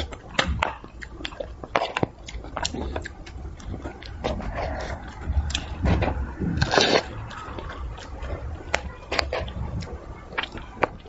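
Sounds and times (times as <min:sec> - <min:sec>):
chewing with lip smacks: 0:00.0 - 0:11.0.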